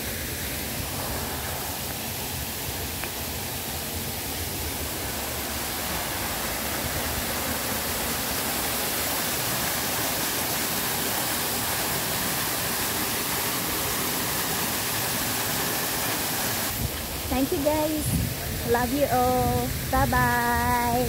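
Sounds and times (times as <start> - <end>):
waterfalls pouring into a pool: 0.0 - 17.3.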